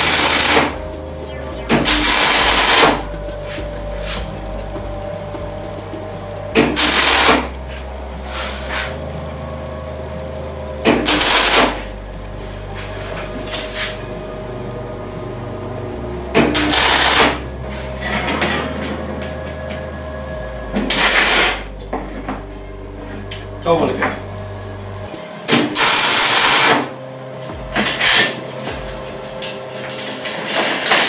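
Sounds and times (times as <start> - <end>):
welding machine hum: 0.0 - 31.0.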